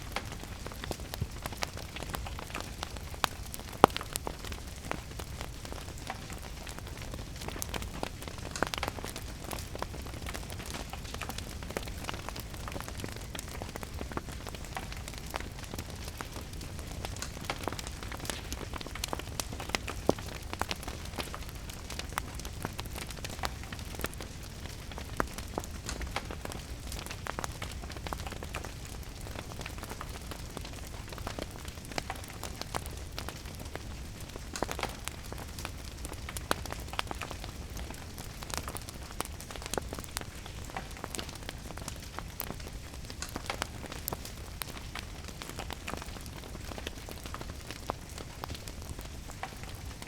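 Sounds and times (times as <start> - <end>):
steady rain falling: 0.0 - 50.0
wood fire crackling: 0.0 - 50.0.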